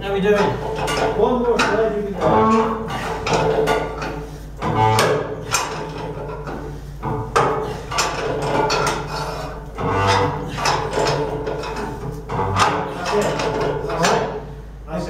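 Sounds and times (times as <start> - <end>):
metallic knocks and clanks: 0.0 - 14.6.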